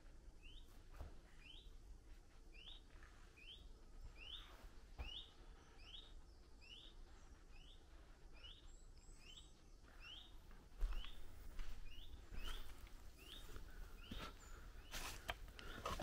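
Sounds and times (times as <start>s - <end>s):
small bird chirping: 0.4s - 1.8s, 2.5s - 16.0s.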